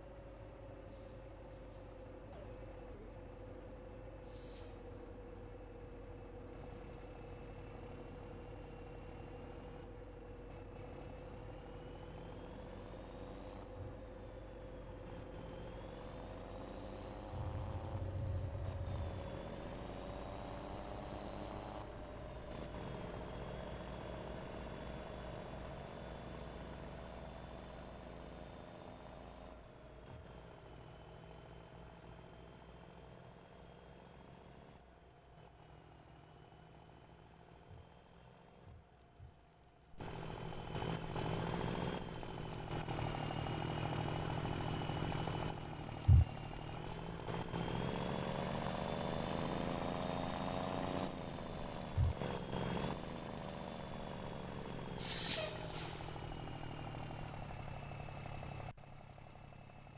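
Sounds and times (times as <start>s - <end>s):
diesel truck engine drone: 0.0s - 59.9s.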